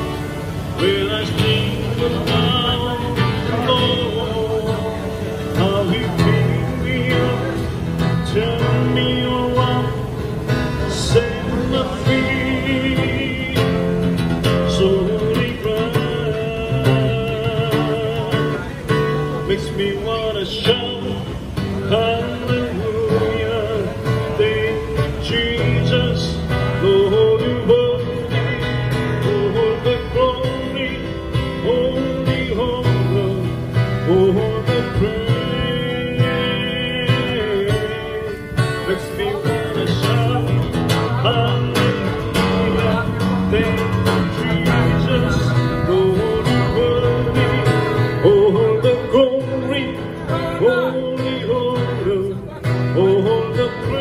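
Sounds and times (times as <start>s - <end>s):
acoustic guitar strumming: 0.0s - 54.0s
man singing: 0.0s - 54.0s.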